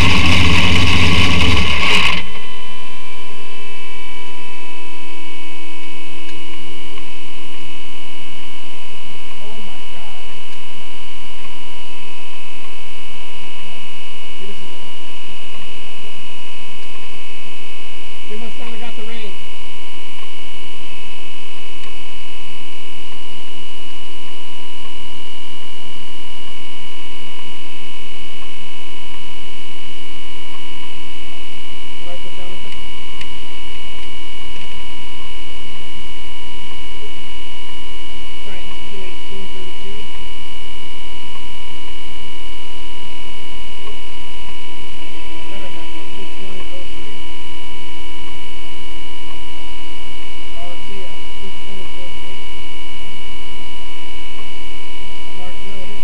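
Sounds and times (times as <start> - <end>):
electrical hum and whine: 0.0 - 56.0.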